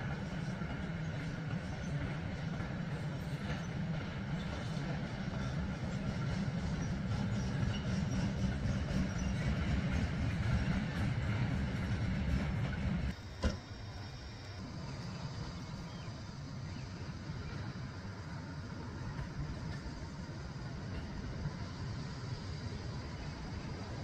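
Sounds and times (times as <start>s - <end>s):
train rumbling over tracks: 0.0s - 24.0s.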